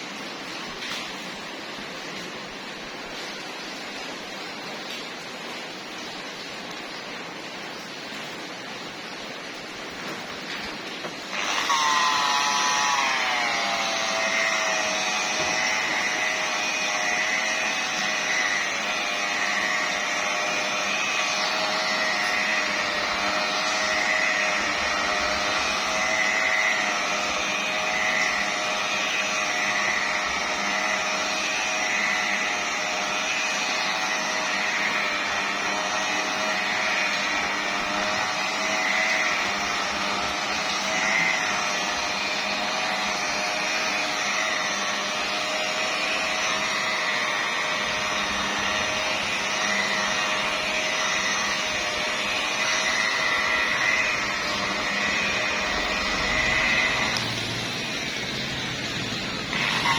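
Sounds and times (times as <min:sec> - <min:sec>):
polishing machine motor whine: 0:11.0 - 0:59.9.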